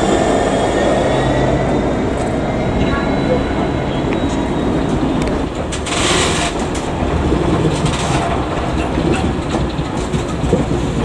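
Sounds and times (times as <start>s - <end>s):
wagon wheels rumbling on rails: 0.0s - 11.0s.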